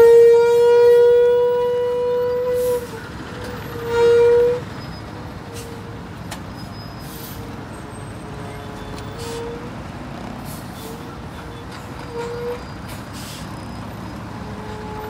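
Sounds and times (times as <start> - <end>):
bus horn blasts: 0.0 - 15.0
traffic noise: 0.0 - 15.0.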